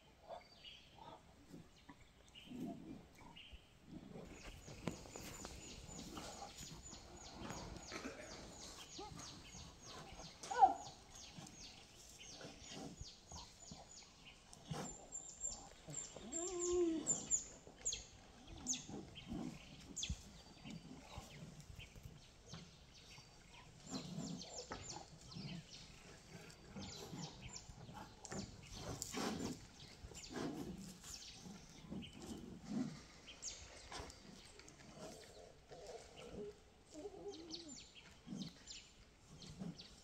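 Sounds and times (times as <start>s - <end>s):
small birds chirping: 0.2s - 40.0s.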